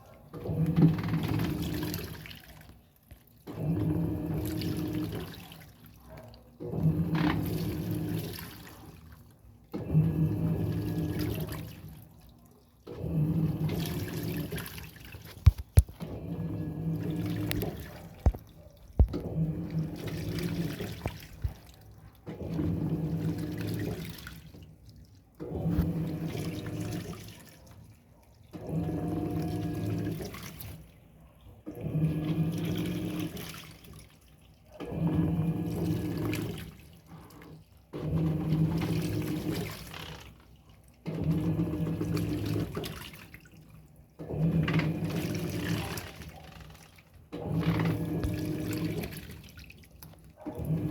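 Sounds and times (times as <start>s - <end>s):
washing machine motor humming: 0.0s - 6.0s, 6.6s - 12.2s, 12.8s - 50.9s
water sloshing: 0.0s - 50.9s.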